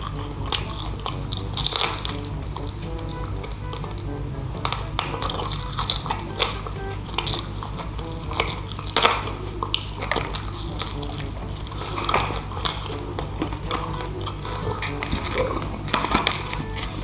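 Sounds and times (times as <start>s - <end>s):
person chewing fried chicken: 0.0s - 17.0s.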